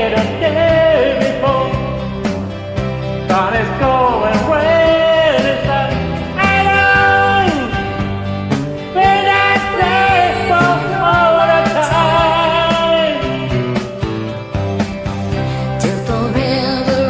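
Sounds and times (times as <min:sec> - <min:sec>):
person singing rock song: 0:00.0 - 0:17.0
rock band accompaniment: 0:00.0 - 0:17.0
steady drum beat: 0:00.0 - 0:17.0.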